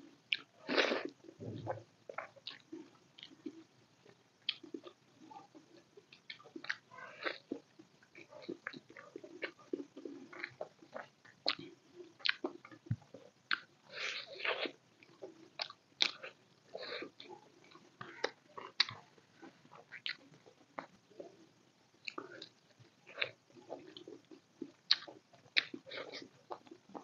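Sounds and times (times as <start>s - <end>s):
person chewing food: 0.3s - 3.7s, 4.4s - 27.0s.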